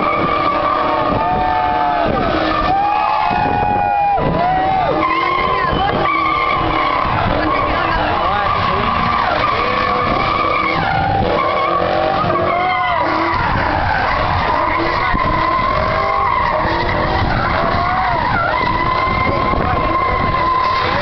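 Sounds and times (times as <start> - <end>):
car engine: 0.0 - 21.0
tires screeching on pavement: 0.0 - 21.0.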